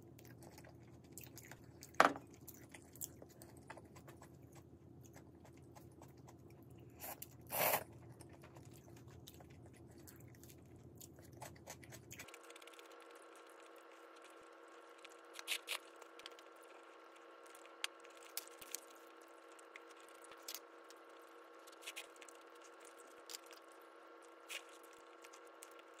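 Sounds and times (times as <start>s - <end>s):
crunching while chewing: 0.0s - 26.0s
faint steady hum: 0.0s - 26.0s.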